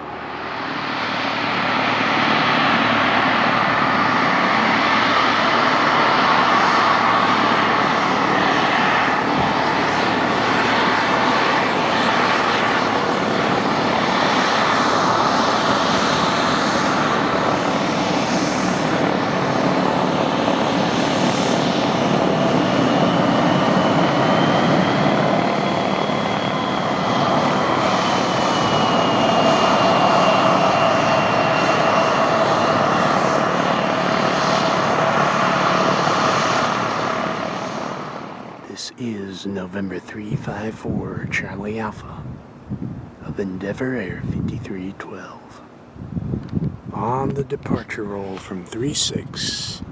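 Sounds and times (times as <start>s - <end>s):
high jet whine: 0.0s - 49.9s
jet engines running: 0.0s - 49.9s.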